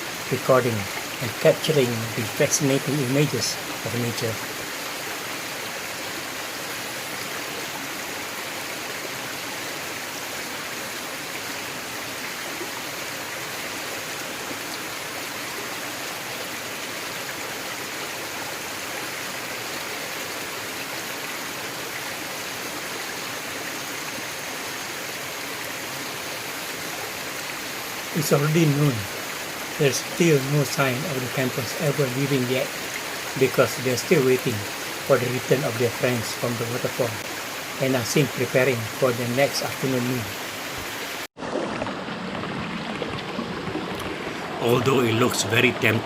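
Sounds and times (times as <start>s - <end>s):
forest stream flowing: 0.0s - 46.0s.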